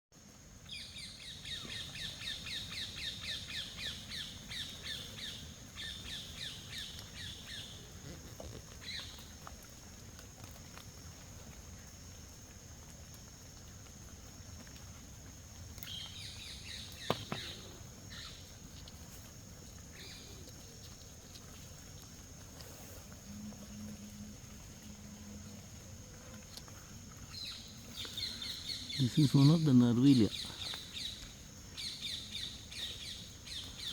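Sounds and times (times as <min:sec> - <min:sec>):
wild birds chirping: 0:00.6 - 0:09.6, 0:15.2 - 0:33.9.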